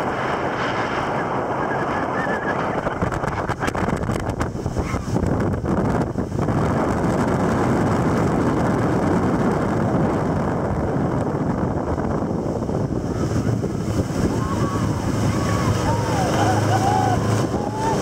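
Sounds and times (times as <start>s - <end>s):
motorboat engine and wake: 0.0s - 18.0s
wind buffeting microphone: 0.0s - 18.0s.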